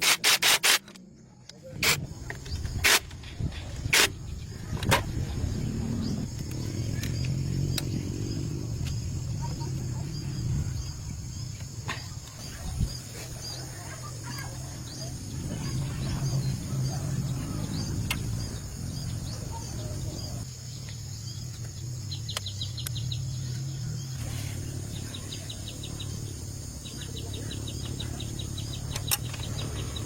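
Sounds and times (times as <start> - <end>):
birds chirping: 1.2 - 30.0.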